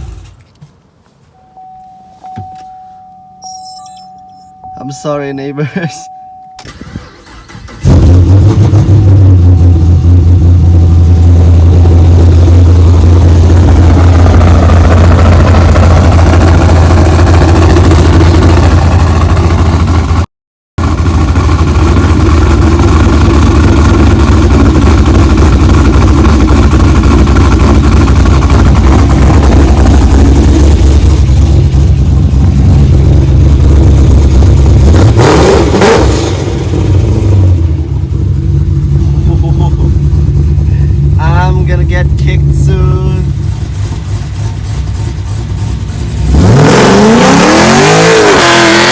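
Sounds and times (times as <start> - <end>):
loud car engine idling: 6.7 - 20.2, 20.8 - 48.0.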